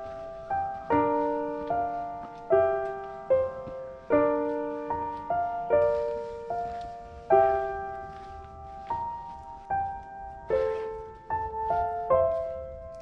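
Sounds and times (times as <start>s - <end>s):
piano playing chords and melody: 0.0s - 13.0s.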